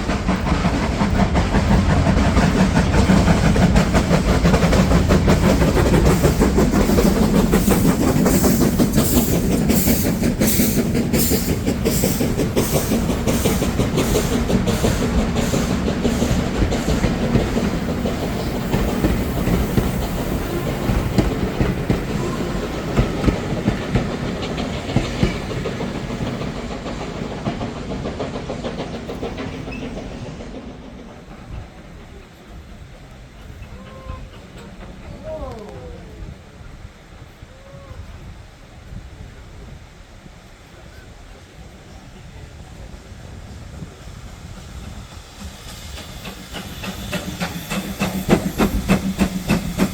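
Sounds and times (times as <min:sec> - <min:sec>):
train wheels clicking over rail joints: 0:00.0 - 0:35.9, 0:40.2 - 0:49.9.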